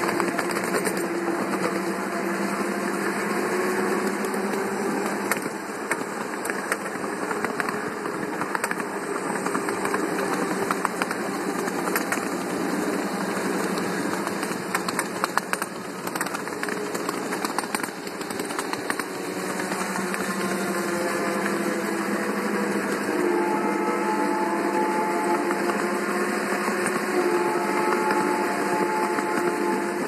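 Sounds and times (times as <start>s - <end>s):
model locomotive drive hum: 0.0s - 30.0s
wheels clicking on rails: 0.0s - 30.0s.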